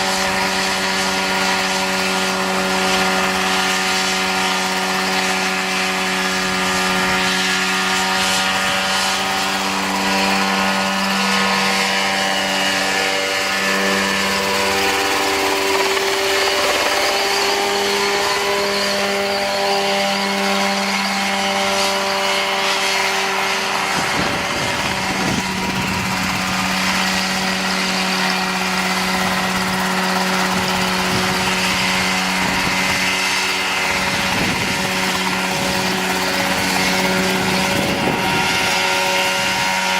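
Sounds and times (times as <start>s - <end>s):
helicopter engine running: 0.0s - 39.9s.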